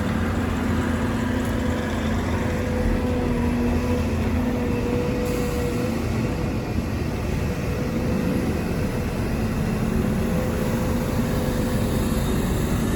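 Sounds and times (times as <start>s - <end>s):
diesel machinery engine drone: 0.0s - 12.9s.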